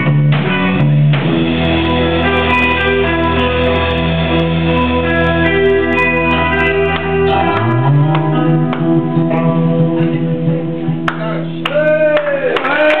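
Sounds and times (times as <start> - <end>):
electric guitar ringing notes: 0.0 - 12.1
bass guitar note: 0.0 - 12.2.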